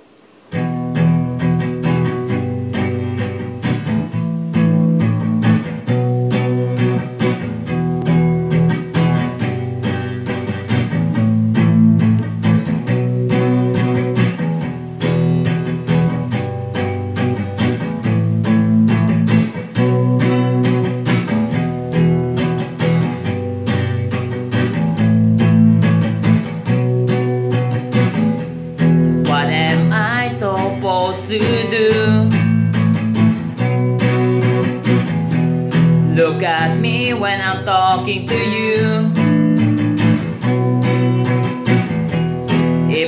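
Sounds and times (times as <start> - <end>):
electric guitar picked chords: 0.0 - 43.0.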